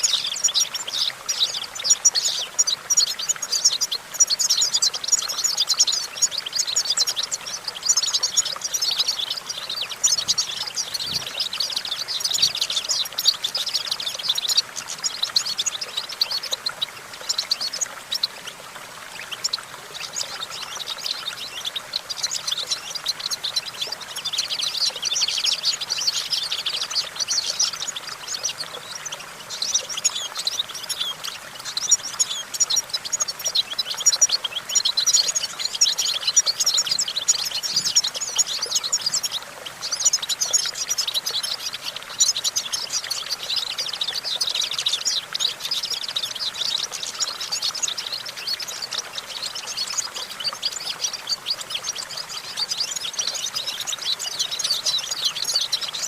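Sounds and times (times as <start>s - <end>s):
bird twittering chirps: 0.0s - 56.0s.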